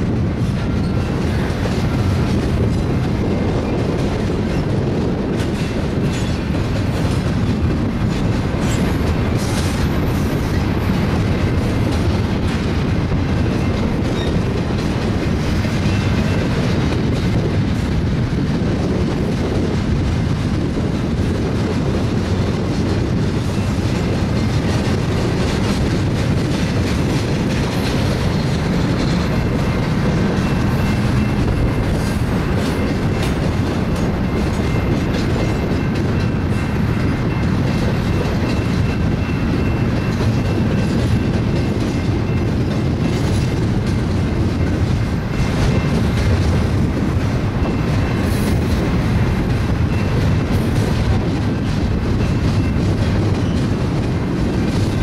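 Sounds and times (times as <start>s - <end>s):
clickety-clack over rail joints: 0.0s - 55.0s
train wheels rumbling on rail: 0.0s - 55.0s.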